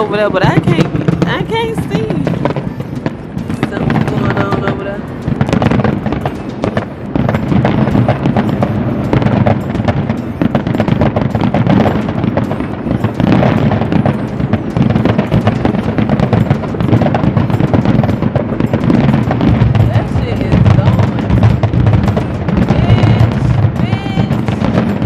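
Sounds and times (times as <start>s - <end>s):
fireworks popping and crackling: 0.0s - 25.0s.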